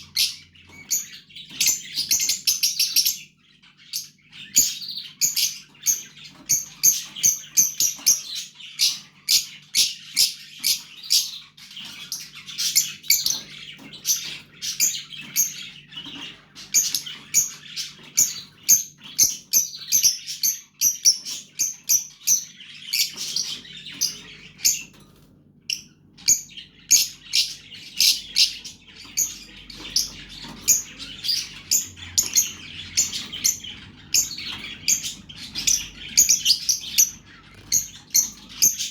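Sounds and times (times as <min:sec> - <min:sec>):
bird chicks chirping: 0:00.0 - 0:38.9.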